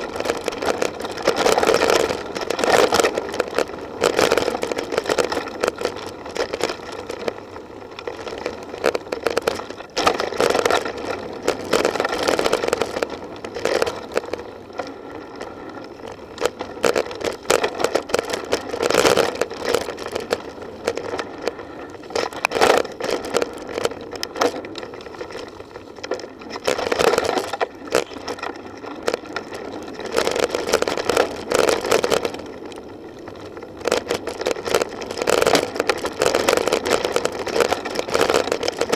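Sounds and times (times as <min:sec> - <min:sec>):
bike rattling over roots and rocks: 0:00.0 - 0:38.9
mountain bike riding noise: 0:00.0 - 0:38.9.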